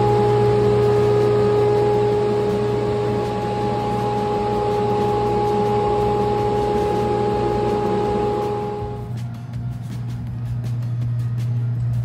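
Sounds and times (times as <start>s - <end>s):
constant whine: 0.0s - 12.0s
motor hum: 0.0s - 12.0s.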